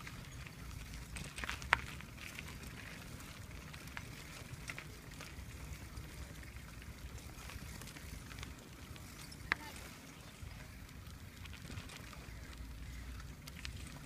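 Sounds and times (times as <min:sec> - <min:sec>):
wheels rolling over gritty asphalt: 0:00.0 - 0:14.0.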